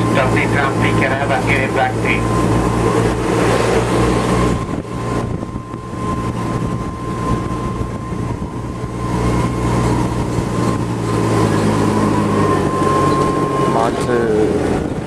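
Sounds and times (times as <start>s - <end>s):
thin high whine: 0.0s - 15.0s
tram engine humming: 0.0s - 15.0s.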